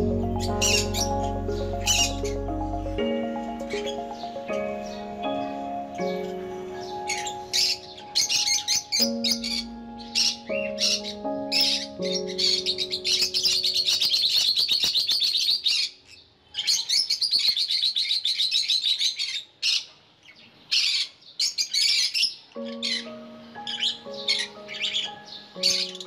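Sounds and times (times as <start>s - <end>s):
lovebirds twittering: 0.0s - 26.0s.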